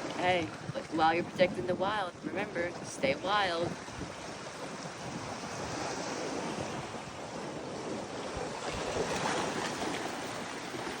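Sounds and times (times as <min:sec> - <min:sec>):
ocean waves washing on shore: 0:00.0 - 0:11.0
wind on microphone: 0:00.0 - 0:11.0.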